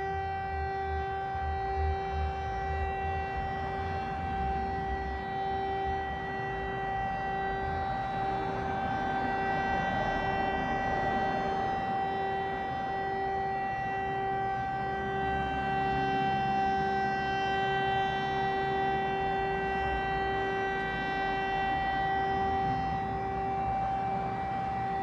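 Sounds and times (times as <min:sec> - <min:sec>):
siren steady tone: 0:00.0 - 0:25.0.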